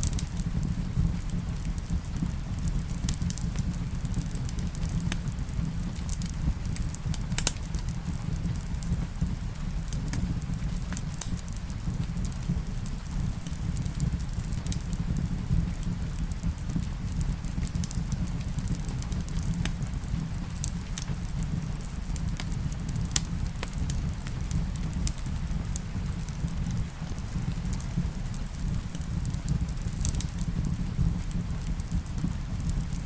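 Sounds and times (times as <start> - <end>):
fire low rumble: 0.0 - 33.0
rain falling: 0.0 - 33.0
wood fire crackling and popping: 0.0 - 33.0.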